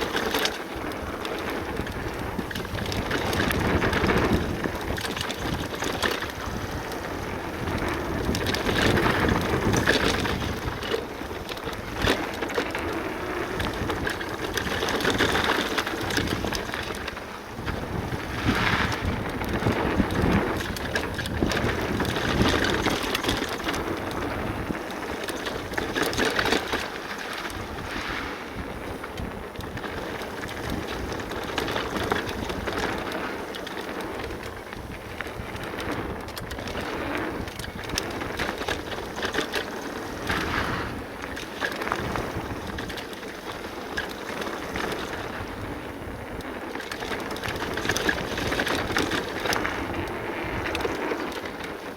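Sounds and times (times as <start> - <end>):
bike clattering over bumps: 0.0 - 51.9
bike tyres rumbling over dirt: 0.0 - 51.9
wind on microphone: 0.8 - 51.9.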